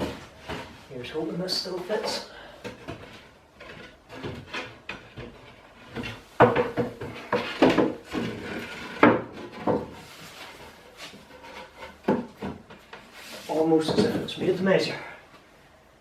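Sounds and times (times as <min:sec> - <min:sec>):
wooden knocks and scrapes: 0:00.0 - 0:00.9, 0:02.0 - 0:14.4.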